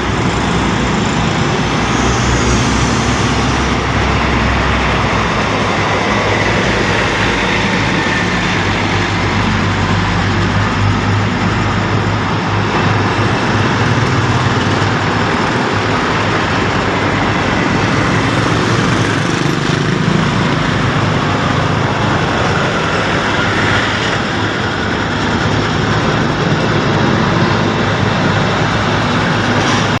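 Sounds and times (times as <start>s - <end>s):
congested road traffic: 0.0s - 30.0s.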